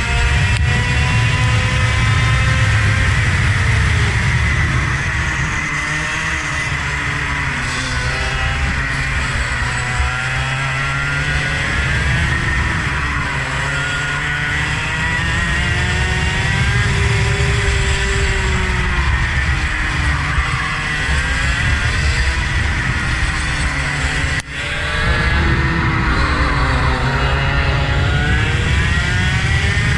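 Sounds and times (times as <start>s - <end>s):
engine accelerating and slowing: 0.0s - 29.9s.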